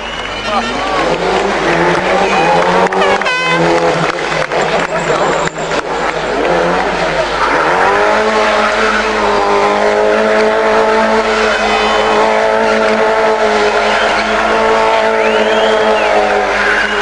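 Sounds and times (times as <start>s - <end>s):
rally car engine at high revs: 0.0s - 17.0s
tyres skidding on tarmac: 0.0s - 17.0s.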